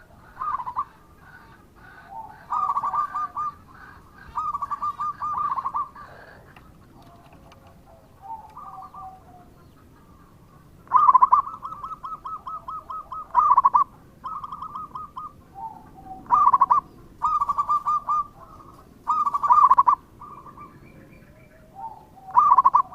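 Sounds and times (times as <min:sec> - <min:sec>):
dove cooing: 0:00.0 - 0:22.9.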